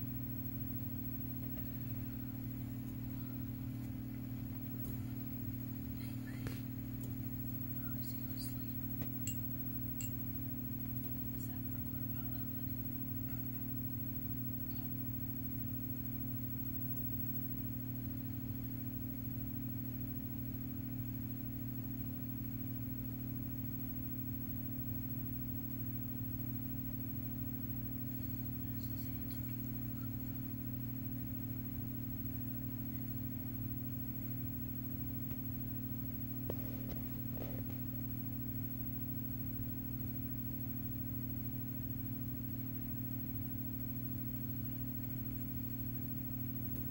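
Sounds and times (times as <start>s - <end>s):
buzzing electrical hum: 0.0s - 46.9s.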